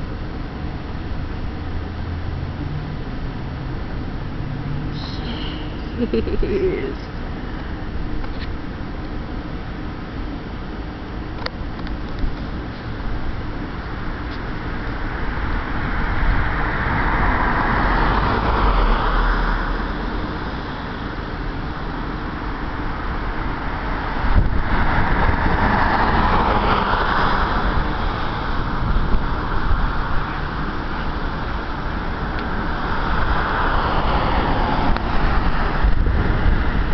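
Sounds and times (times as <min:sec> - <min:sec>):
steady low traffic rumble: 0:00.0 - 0:36.9
vehicles passing by: 0:00.0 - 0:36.9.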